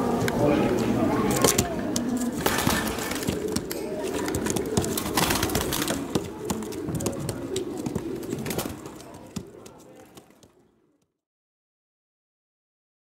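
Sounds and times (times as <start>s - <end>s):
pigeons cooing: 0.0s - 10.7s
people talking: 0.0s - 11.0s.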